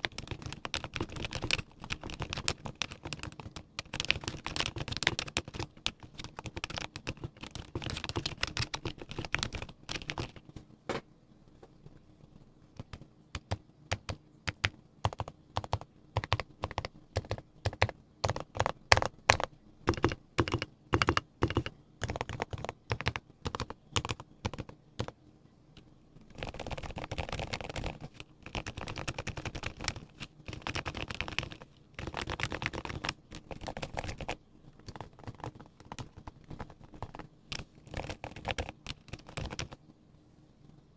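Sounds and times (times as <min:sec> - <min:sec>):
typing on mechanical keyboard: 0:00.0 - 0:10.5, 0:12.8 - 0:25.2, 0:26.3 - 0:39.8.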